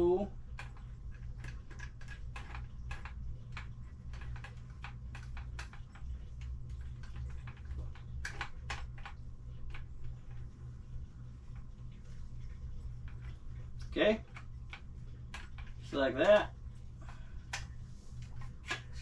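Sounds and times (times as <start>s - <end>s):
steady low hum: 0.0s - 19.0s
light clicks and taps: 0.4s - 19.0s.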